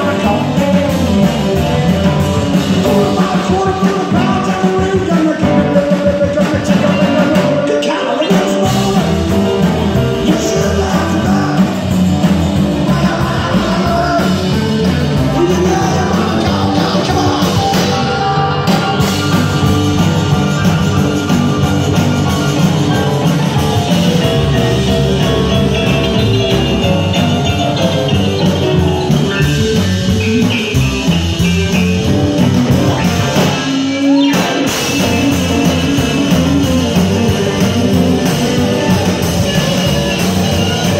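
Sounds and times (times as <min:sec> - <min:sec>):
lead vocal singing: 0:00.0 - 0:26.3, 0:33.2 - 0:40.9
rockabilly band playing: 0:00.0 - 0:40.9.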